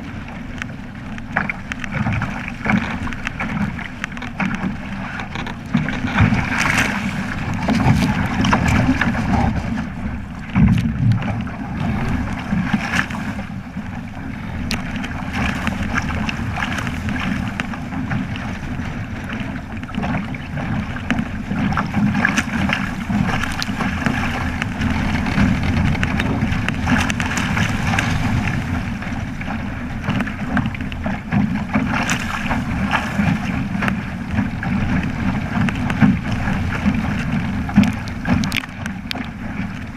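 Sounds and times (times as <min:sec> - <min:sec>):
water splashing along boat hull: 0:00.0 - 0:39.9
wind buffeting microphone: 0:00.0 - 0:39.9.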